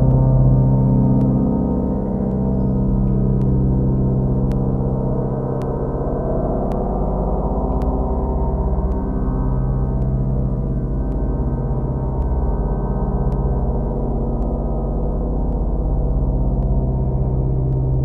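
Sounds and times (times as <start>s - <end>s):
deep ambient drone music: 0.0s - 18.0s.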